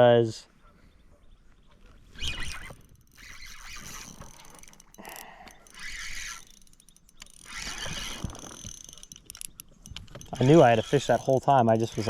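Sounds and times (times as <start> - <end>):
fishing reel whirring and clicking: 2.1 - 12.0.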